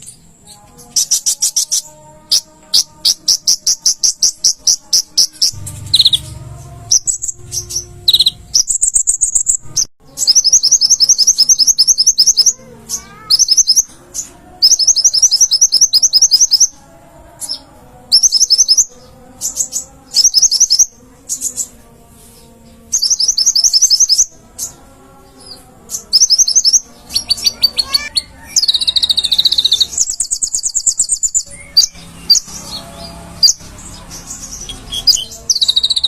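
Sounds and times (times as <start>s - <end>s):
bird chirping high and sharp: 0.9s - 16.8s, 18.2s - 21.7s, 23.0s - 24.7s, 26.0s - 36.0s.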